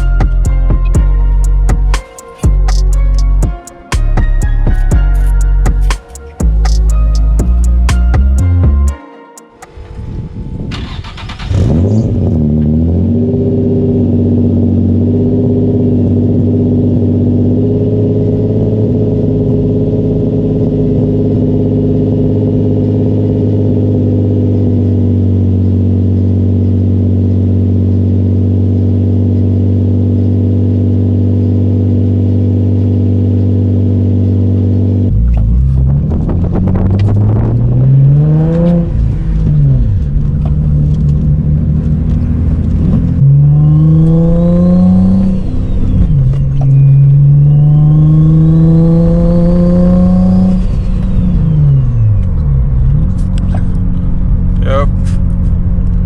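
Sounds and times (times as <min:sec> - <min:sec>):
car engine starting and revving: 0:09.7 - 0:56.0.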